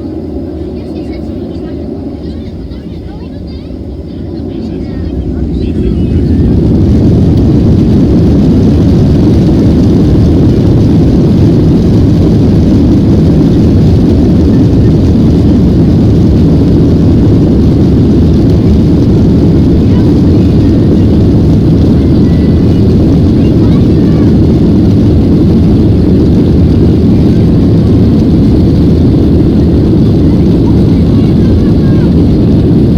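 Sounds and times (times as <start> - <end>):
jet engines rumbling in cabin: 0.0 - 32.9.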